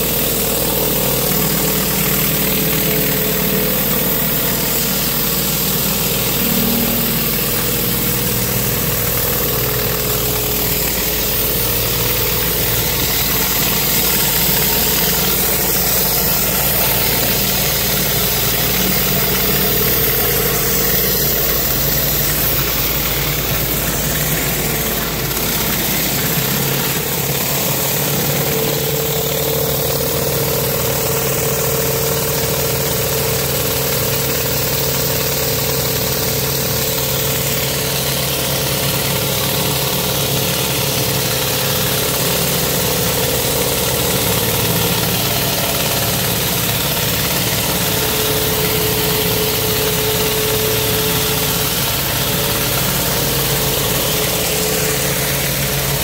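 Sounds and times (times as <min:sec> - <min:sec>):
hiss of spinning water jets: 0:00.0 - 0:56.0
pressure washer machine hum: 0:00.0 - 0:56.0.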